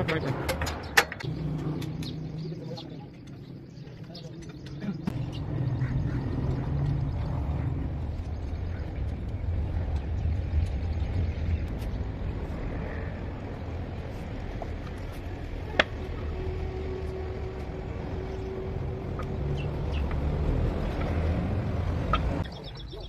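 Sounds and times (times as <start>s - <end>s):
engine running with low rumble: 0.2s - 22.9s.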